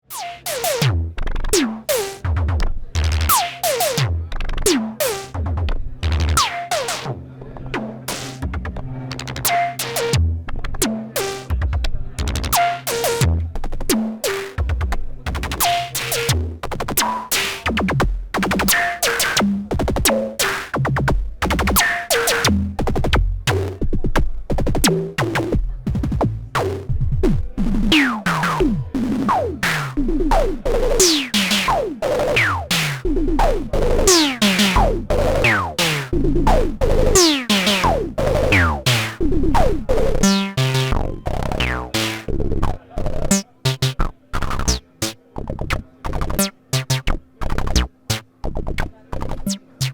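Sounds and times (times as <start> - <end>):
electronic drum machine pattern: 0.0 - 49.9.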